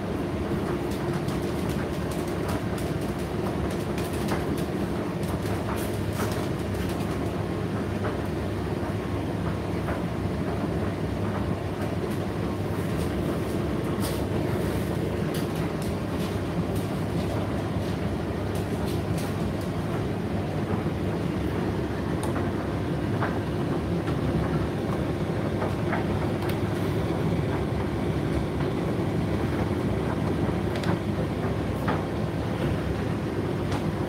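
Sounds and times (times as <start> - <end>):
tumble dryer running: 0.0 - 34.0.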